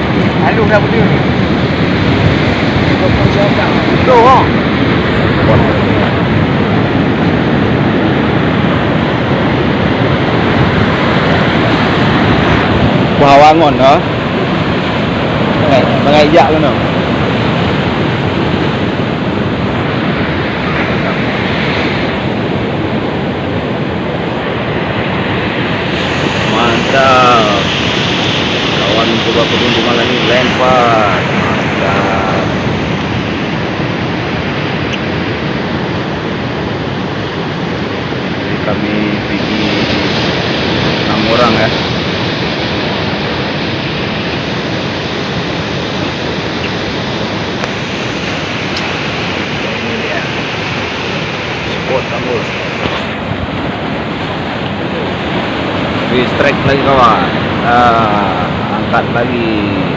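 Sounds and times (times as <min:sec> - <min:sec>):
sea surf washing: 0:00.0 - 0:59.9.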